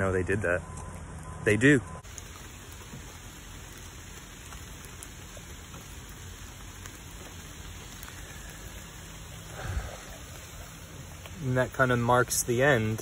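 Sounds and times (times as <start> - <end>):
light rain on puddle and asphalt: 0.0 - 13.0.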